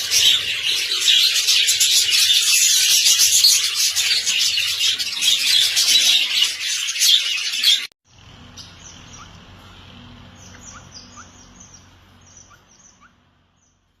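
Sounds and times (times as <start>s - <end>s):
budgerigars chirping: 0.0s - 7.9s, 8.5s - 13.8s.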